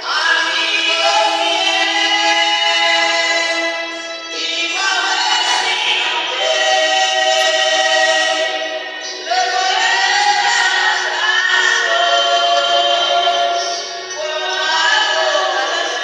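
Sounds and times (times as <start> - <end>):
women singing a hymn: 0.0 - 16.0.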